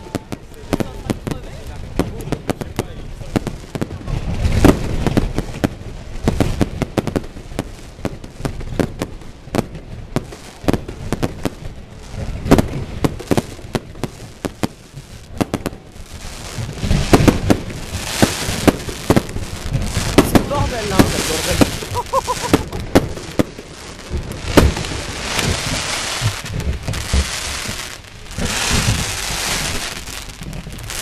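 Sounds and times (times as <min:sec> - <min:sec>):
fireworks bangs and crackles: 0:00.0 - 0:31.0
hissing crackle: 0:00.0 - 0:31.0.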